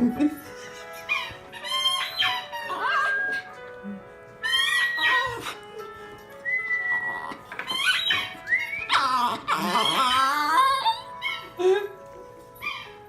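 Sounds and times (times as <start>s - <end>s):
music: 0.0s - 13.0s
dog howling and whining: 0.7s - 3.6s, 4.4s - 12.0s.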